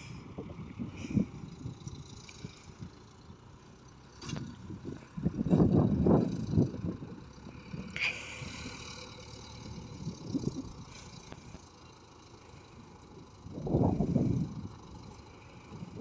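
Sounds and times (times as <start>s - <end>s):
diesel engine running faintly: 0.0s - 16.0s.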